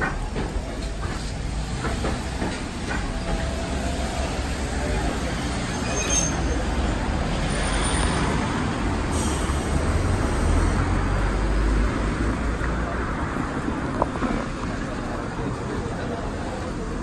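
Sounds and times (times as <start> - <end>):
cars passing: 0.0 - 17.0
deep traffic rumble: 0.0 - 17.0.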